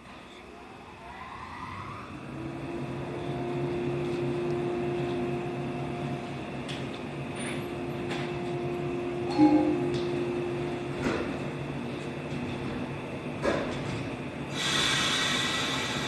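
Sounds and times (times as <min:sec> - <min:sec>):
electric train hum: 0:00.0 - 0:16.0.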